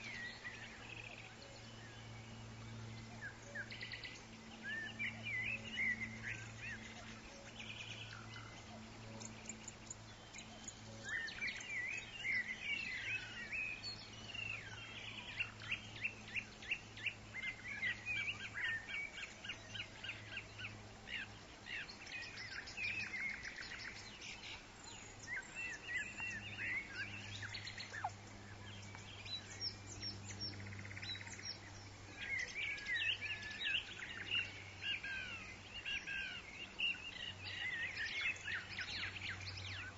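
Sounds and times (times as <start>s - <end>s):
birds singing and calling: 0.0s - 39.9s
faint low hum: 0.0s - 39.9s.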